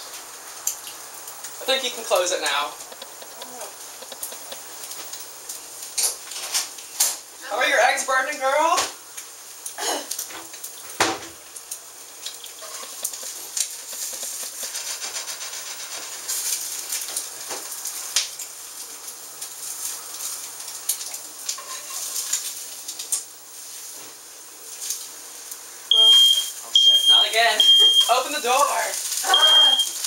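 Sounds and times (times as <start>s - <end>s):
eggs sizzling in a pan: 0.0s - 30.0s.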